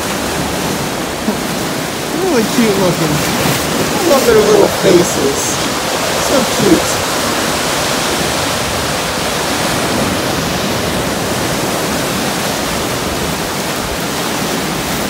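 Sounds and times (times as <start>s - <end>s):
surf rushing between rocks: 0.0s - 15.0s.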